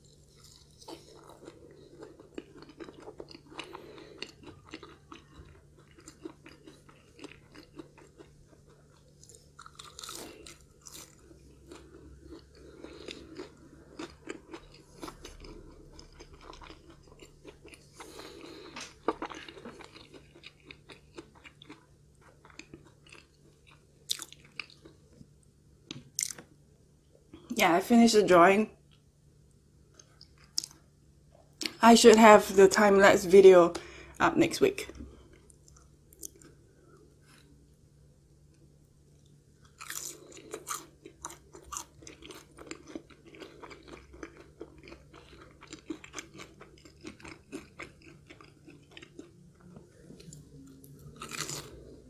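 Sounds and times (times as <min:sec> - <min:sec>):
chewing crispy food: 0:00.0 - 0:26.5, 0:29.8 - 0:32.4, 0:34.8 - 0:37.8, 0:38.4 - 0:52.0.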